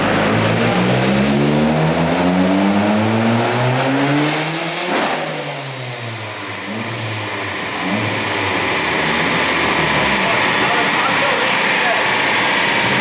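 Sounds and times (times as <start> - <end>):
car engine revving at full throttle: 0.0 - 13.0.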